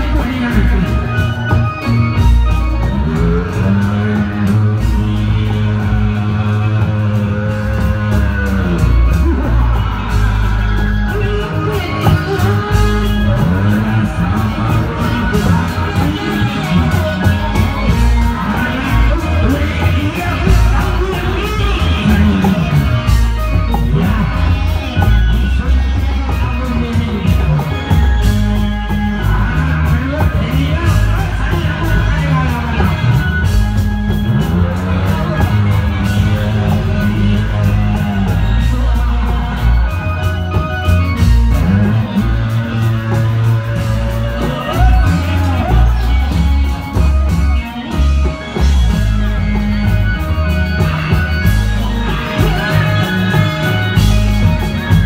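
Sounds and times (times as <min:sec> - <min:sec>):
sliding melody in long notes: 0:00.0 - 0:55.0
steady percussion: 0:00.0 - 0:55.0.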